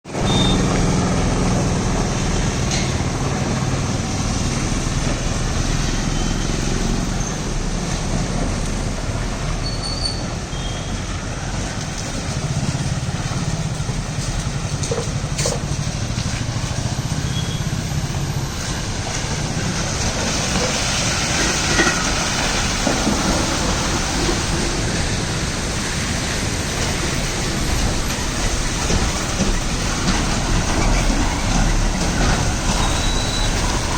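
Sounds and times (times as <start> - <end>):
truck diesel engine droning: 0.1 - 33.9.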